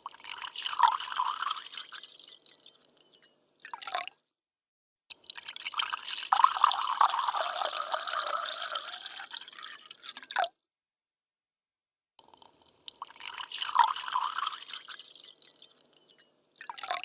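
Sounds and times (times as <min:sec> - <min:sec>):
dripping water patter: 0:00.0 - 0:04.2, 0:05.1 - 0:10.5, 0:12.2 - 0:17.0.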